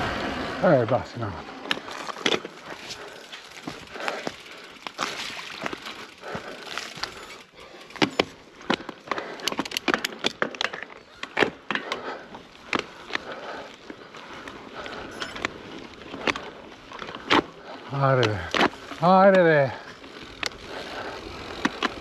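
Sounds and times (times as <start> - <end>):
mountain bike clattering over trail: 0.0 - 22.0.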